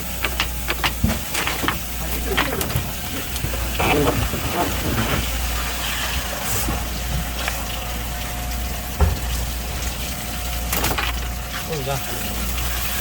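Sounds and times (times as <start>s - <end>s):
low machine hum: 0.0s - 13.0s
running water rushing: 0.0s - 13.0s.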